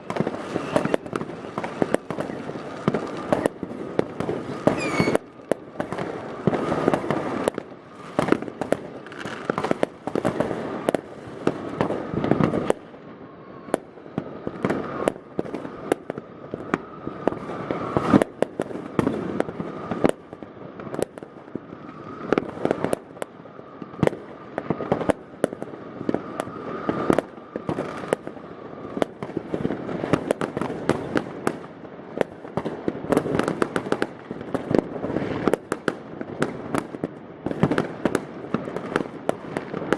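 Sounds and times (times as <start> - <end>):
fireworks banging and crackling: 0.0 - 39.9.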